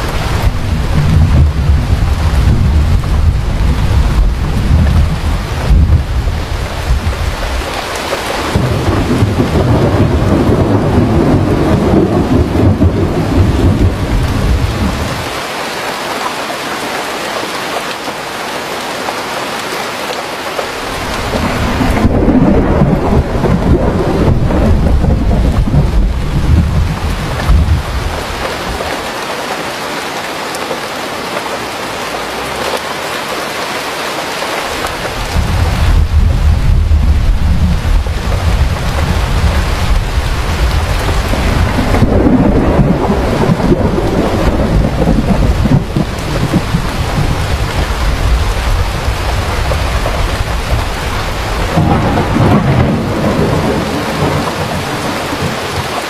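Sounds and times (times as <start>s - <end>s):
thunder rumbling: 0.0s - 15.3s, 20.8s - 29.1s, 34.7s - 56.0s
rain hissing: 0.0s - 56.0s.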